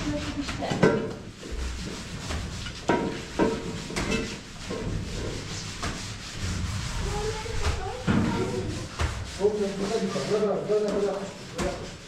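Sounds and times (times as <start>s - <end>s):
hand scrubbing and scraping: 0.0s - 12.0s.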